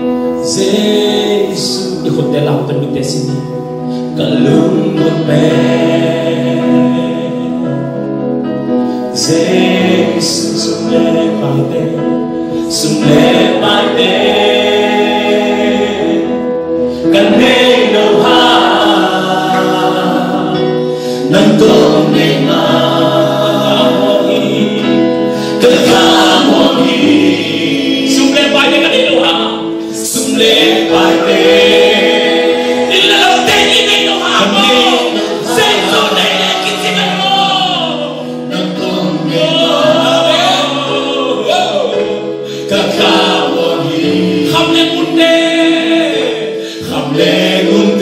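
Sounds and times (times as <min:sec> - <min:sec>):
choir singing gospel song: 0:00.0 - 0:48.0
low musical accompaniment: 0:00.0 - 0:48.0.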